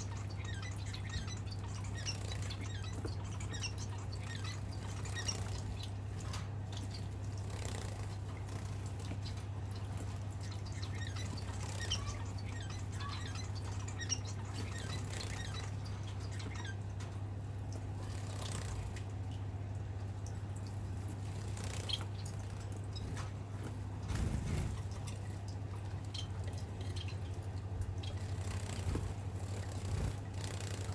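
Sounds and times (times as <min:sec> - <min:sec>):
birds splashing in water: 0:00.0 - 0:30.9
steady low hum: 0:00.0 - 0:30.9.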